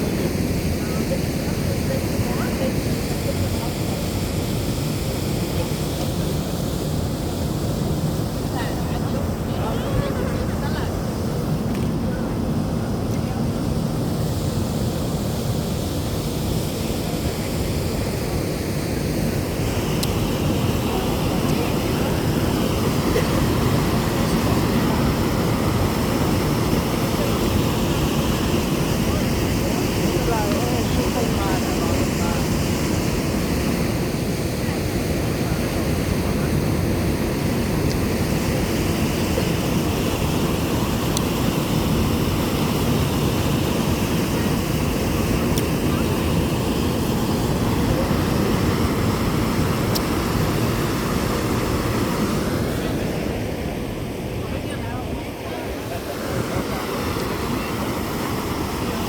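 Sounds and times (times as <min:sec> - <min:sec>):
ship engine drone: 0:00.0 - 0:59.0
water rushing: 0:00.0 - 0:59.0
wind: 0:00.0 - 0:59.0.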